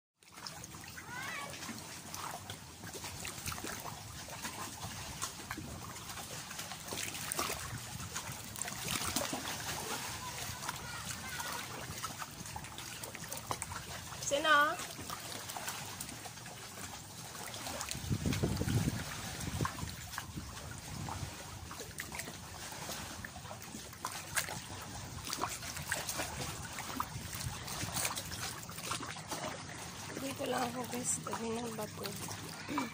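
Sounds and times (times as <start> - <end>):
small splashes and trickles: 0.2 - 32.9
water washing over rocks: 0.2 - 32.9.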